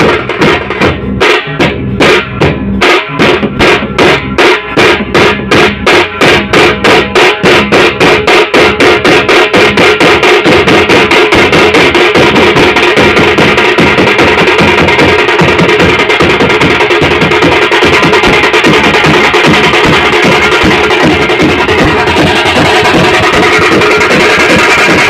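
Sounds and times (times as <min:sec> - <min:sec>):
drummers beating large drums: 0:00.0 - 0:25.0.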